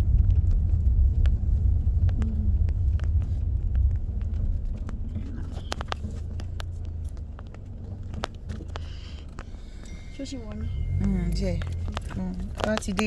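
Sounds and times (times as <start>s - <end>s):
road rumble inside car: 0.0s - 13.0s
small clicks and rattles: 0.0s - 13.0s.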